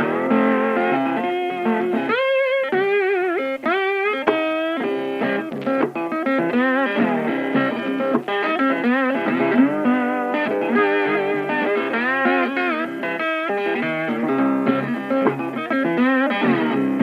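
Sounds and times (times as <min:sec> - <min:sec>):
ambient guitar music: 0:00.0 - 0:17.0.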